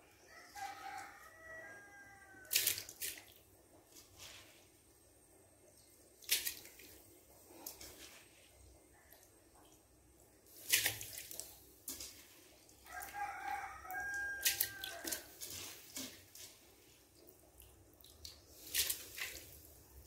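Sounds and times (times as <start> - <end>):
water drips and splashes: 0.5 - 4.5, 5.8 - 20.0.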